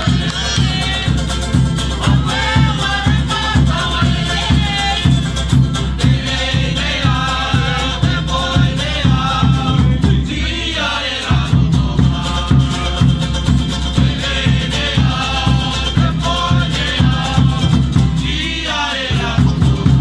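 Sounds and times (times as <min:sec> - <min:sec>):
guitar and ukuleles strummed: 0:00.0 - 0:20.0
quick steady drum beat: 0:00.0 - 0:20.0.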